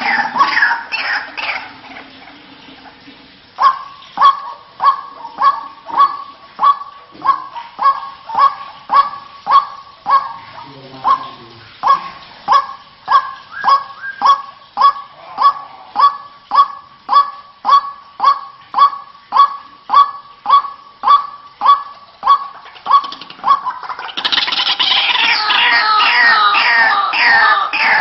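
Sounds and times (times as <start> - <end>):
waterhen calling harsh notes: 0.0 - 28.0.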